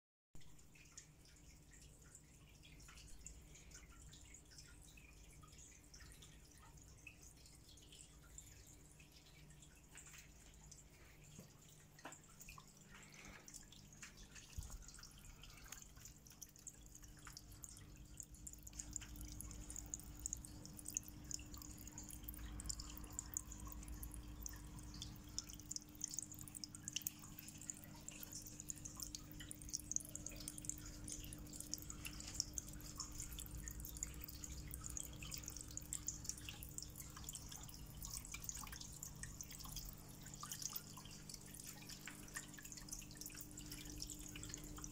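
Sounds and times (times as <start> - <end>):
low steady hum: 0.4 - 44.9
water trickling and dripping: 0.4 - 44.9.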